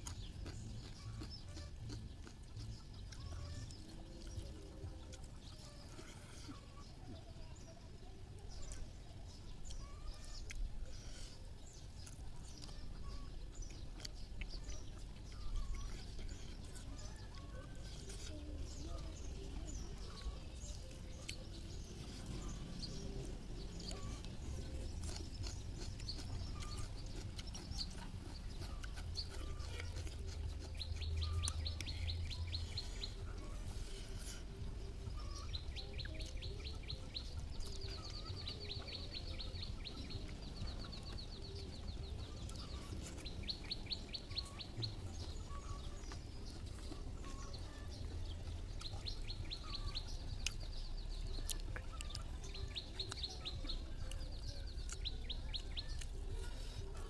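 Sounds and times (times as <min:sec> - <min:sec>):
soft clicks of eating: 0:00.0 - 0:57.0.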